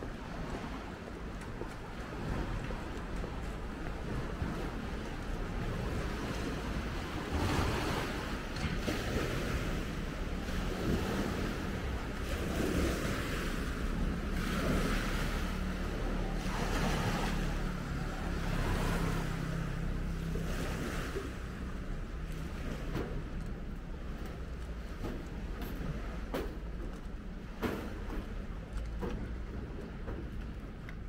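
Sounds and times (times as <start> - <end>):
small waves lapping: 0.0 - 31.0
wind gusting over microphone: 0.0 - 31.0.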